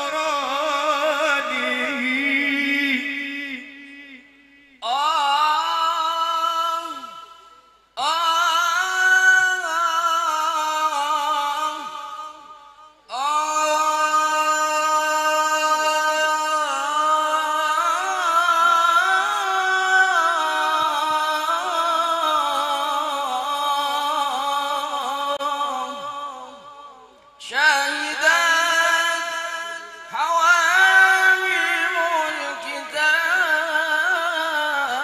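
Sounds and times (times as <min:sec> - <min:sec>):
man singing through a microphone: 0:00.0 - 0:35.0.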